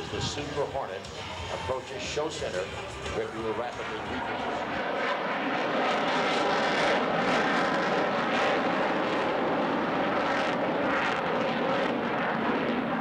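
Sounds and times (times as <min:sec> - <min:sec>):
fighter jet flying overhead: 0:00.0 - 0:13.0.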